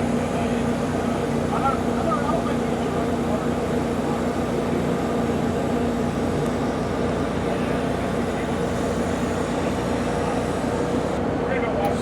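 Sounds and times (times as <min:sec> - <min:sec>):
mechanical drone: 0:00.0 - 0:12.0.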